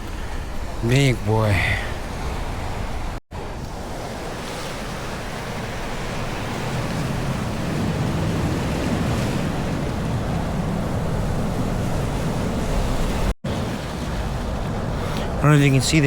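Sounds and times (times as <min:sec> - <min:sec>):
ocean surf washing ashore: 0:00.0 - 0:16.0.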